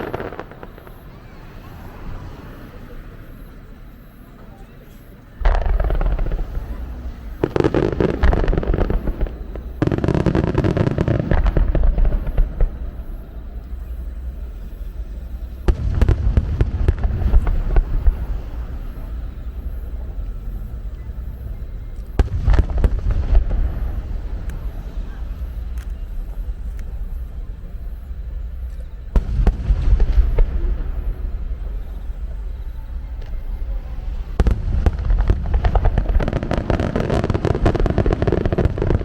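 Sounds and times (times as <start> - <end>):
deep fireworks booms: 0.0 - 3.5, 5.4 - 39.0
fireworks bursts and crackling: 0.0 - 3.6, 4.5 - 39.0.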